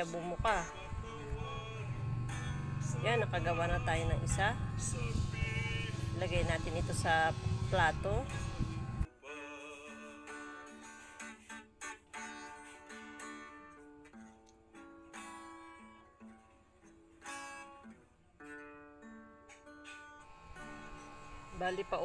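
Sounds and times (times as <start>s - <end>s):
plucked guitar melody: 0.0s - 9.1s, 10.2s - 22.0s.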